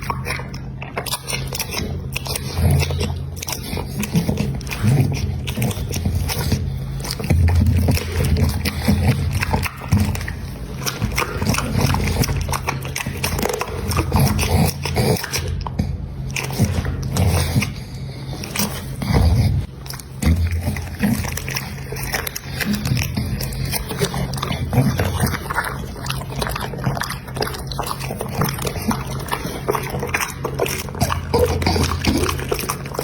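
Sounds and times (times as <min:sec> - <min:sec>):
dog chewing food: 0:00.0 - 0:33.0.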